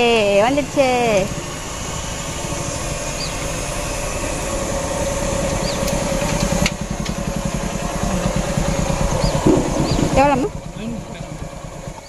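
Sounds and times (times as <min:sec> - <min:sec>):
motorcycle engine approaching: 0:00.0 - 0:12.0.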